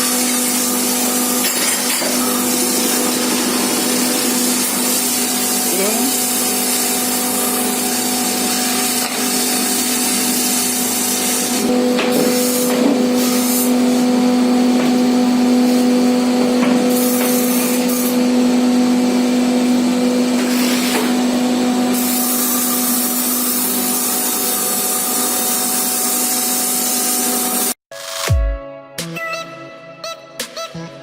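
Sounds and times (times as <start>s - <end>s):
hissy cutting and dust extraction: 0.0s - 27.8s.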